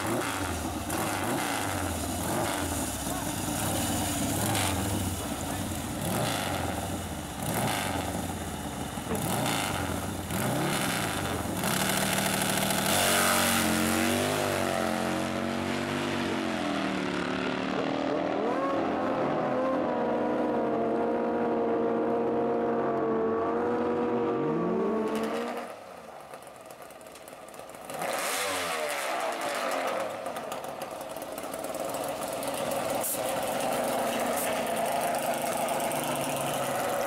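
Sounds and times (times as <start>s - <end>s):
motorcycle engine revving and accelerating: 0.0s - 25.8s, 27.8s - 37.0s.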